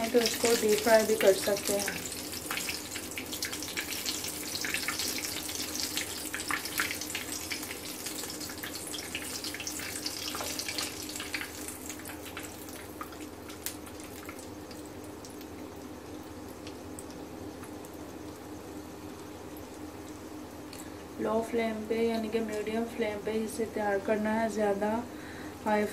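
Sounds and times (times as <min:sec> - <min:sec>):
hot oil sizzling and popping: 0:00.0 - 0:22.8.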